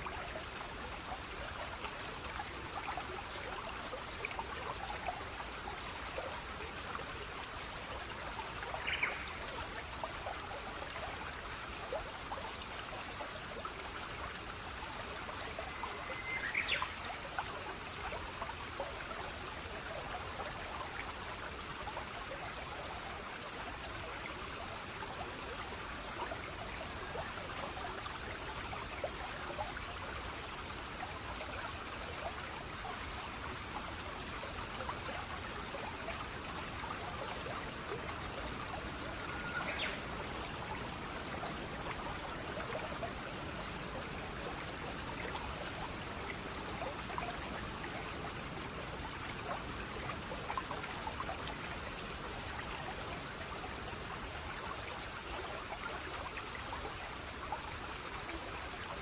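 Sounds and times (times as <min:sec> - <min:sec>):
water trickling and babbling: 0:00.0 - 0:59.0.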